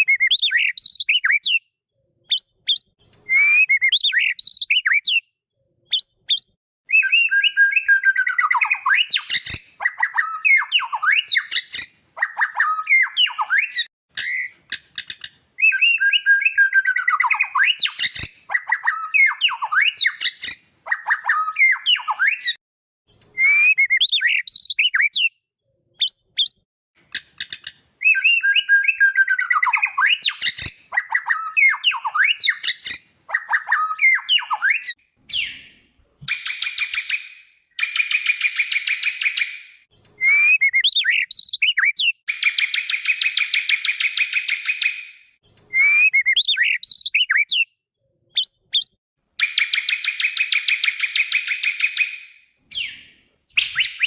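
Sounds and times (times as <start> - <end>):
bird singing whistled phrases: 0.0 - 1.7, 2.3 - 5.3, 5.9 - 14.5, 15.2 - 22.6, 23.4 - 25.4, 26.0 - 26.6, 27.4 - 45.1, 45.7 - 47.8, 48.4 - 54.0.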